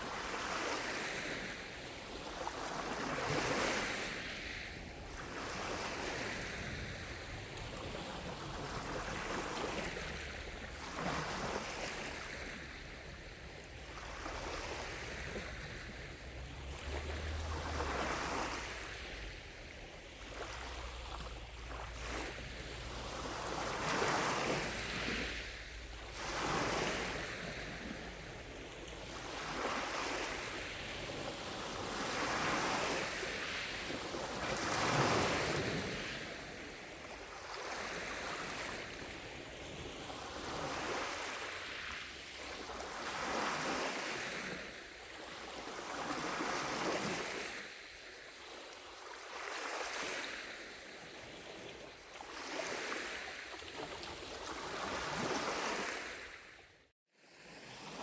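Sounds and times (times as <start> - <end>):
lake waves washing on shore: 0.0 - 56.7.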